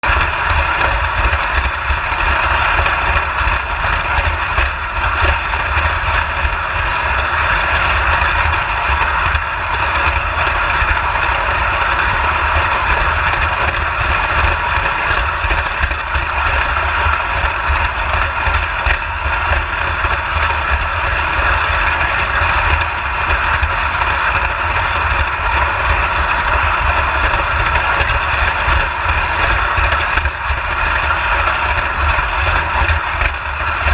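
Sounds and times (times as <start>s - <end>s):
wheels running on rails: 0.0s - 33.9s.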